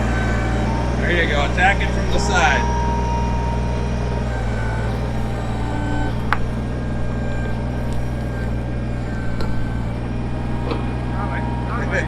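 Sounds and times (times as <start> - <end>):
hydraulic whine: 0.0 - 12.0
tractor diesel engine running: 0.0 - 12.0.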